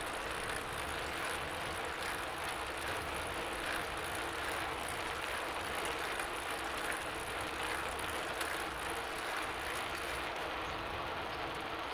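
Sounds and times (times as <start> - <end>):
bicycle tyres and drivetrain whirring: 0.0 - 11.9.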